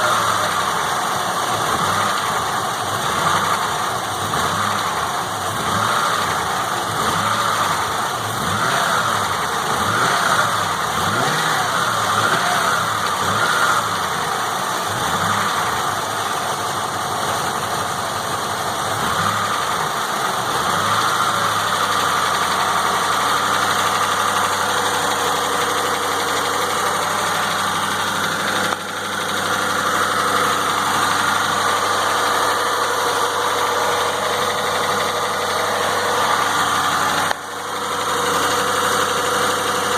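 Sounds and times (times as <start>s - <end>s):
engine running near idle: 0.0s - 39.9s.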